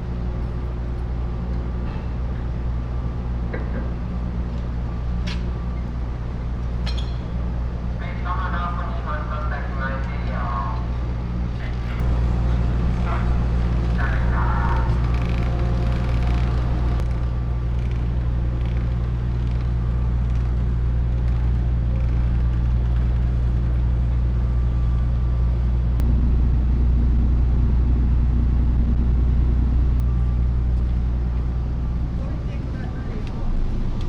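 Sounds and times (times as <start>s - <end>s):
heavy engine running: 0.0s - 34.0s.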